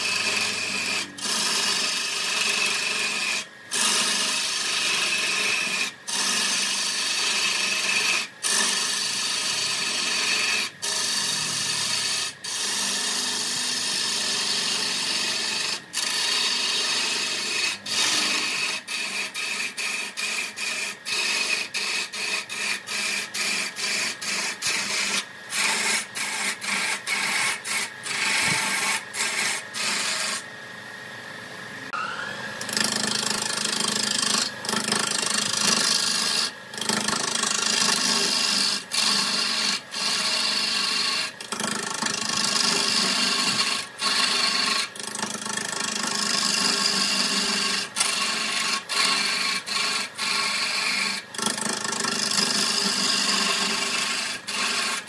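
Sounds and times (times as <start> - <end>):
lathe tool scraping spinning wood: 0.0 - 30.6, 31.9 - 55.0.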